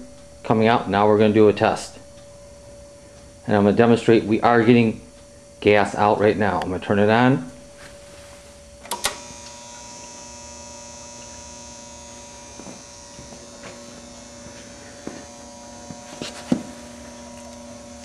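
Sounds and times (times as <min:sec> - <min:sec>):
gas generator electrical hum: 0:00.0 - 0:18.0.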